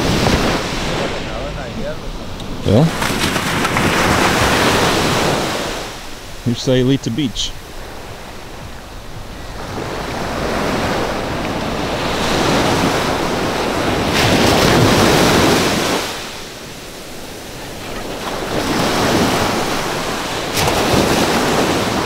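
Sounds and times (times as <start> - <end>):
ocean surf breaking on beach: 0.0 - 22.0
wind buffeting microphone: 0.0 - 22.0.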